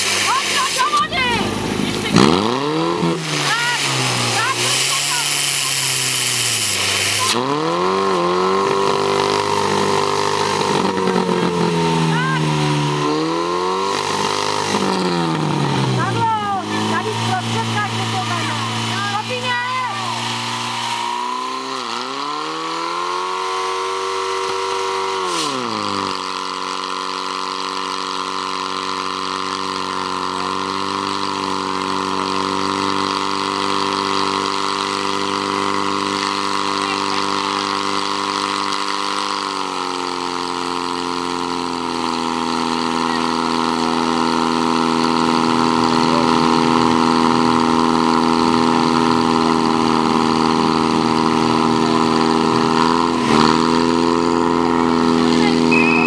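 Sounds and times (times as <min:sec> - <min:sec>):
pump engine running hard: 0:00.0 - 0:56.0.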